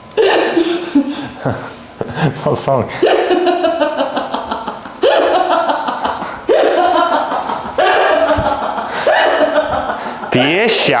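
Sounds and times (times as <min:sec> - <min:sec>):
woman giggling: 0:00.2 - 0:10.8.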